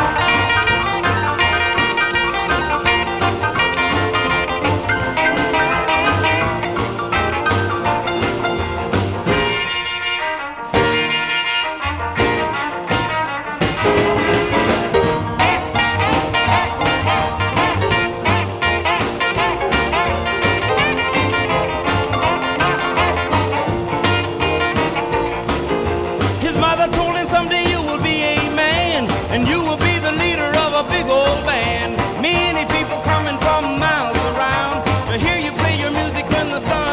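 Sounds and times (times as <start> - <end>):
swing band music with brass: 0.0 - 36.9.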